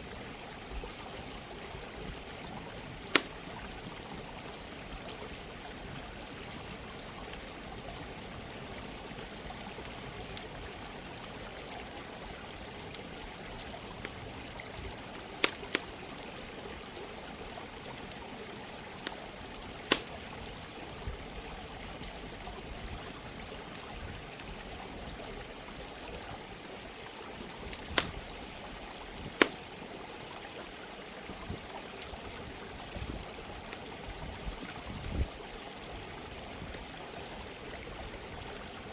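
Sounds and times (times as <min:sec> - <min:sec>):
running water: 0:00.0 - 0:38.9
campfire crackling and popping: 0:00.6 - 0:35.4.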